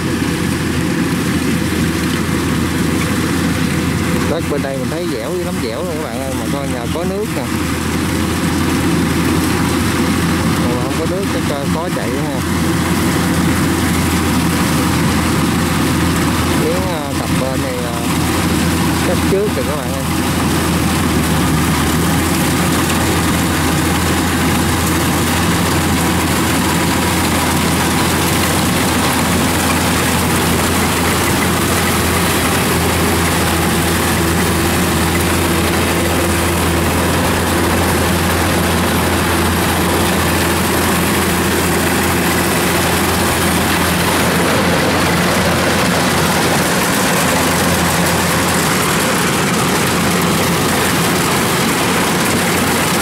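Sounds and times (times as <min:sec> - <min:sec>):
combine harvester engine drone: 0:00.0 - 0:53.0.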